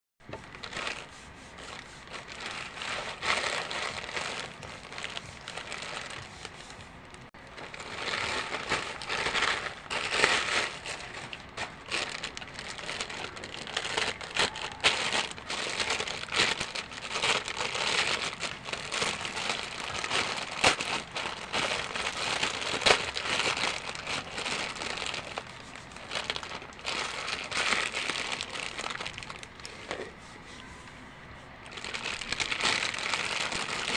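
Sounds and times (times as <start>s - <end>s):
plastic packaging crinkling: 0.2s - 30.7s, 31.6s - 33.9s.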